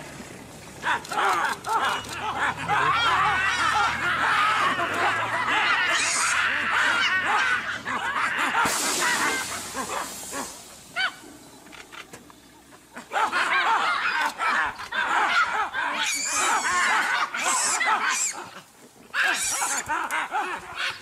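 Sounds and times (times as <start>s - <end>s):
baboons screaming and barking: 0.8s - 11.4s, 12.6s - 21.0s.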